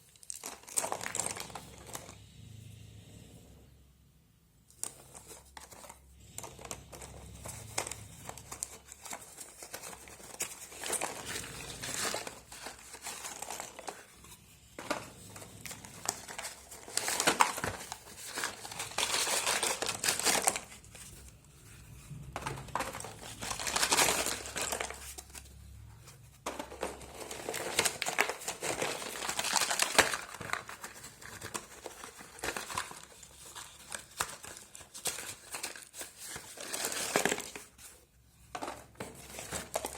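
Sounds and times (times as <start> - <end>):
packaging crinkling and tearing: 0.0 - 2.2, 4.7 - 38.0, 38.8 - 39.9.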